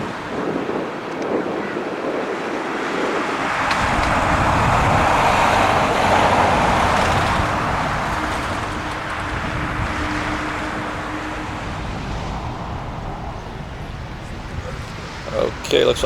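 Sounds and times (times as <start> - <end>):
jet engines rushing past: 0.0 - 16.0.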